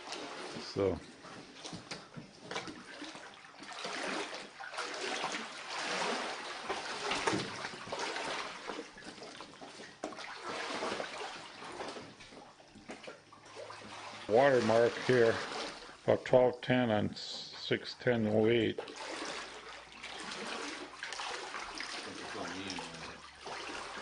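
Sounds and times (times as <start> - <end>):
person wading through water: 0.0 - 16.8, 17.4 - 24.0.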